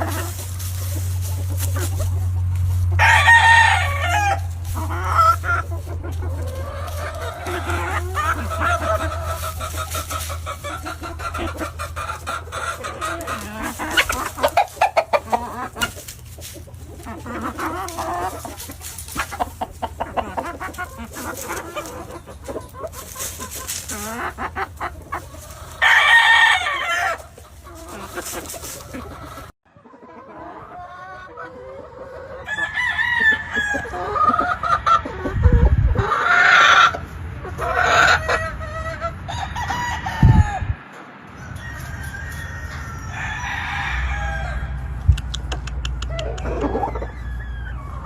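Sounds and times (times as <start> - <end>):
roosters crowing: 0.0 - 45.1, 45.7 - 48.0
hens clucking: 0.0 - 48.0.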